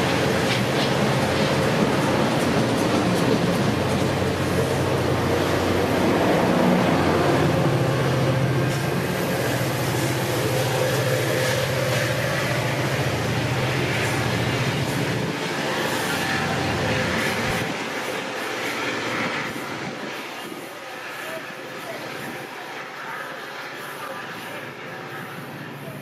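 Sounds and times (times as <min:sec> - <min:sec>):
locomotive engine drone: 0:00.0 - 0:26.0
train rumbling on track: 0:00.0 - 0:26.0.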